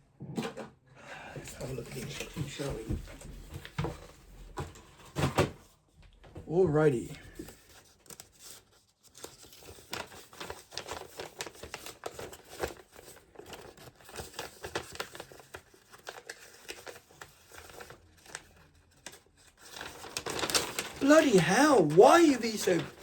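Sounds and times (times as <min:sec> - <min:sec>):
paper crinkling and rustling: 0:01.5 - 0:05.4, 0:07.2 - 0:23.0.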